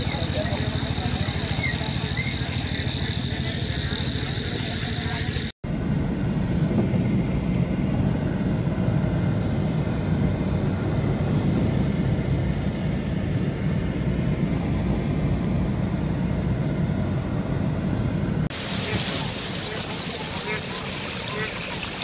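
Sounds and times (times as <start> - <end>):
car driving through flood water: 0.0 - 22.0.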